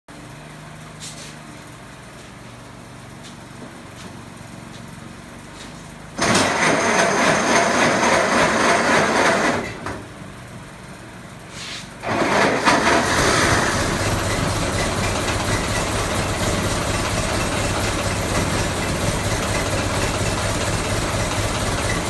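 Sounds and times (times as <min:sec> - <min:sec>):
car engine idling and revving: 0:00.2 - 0:22.0.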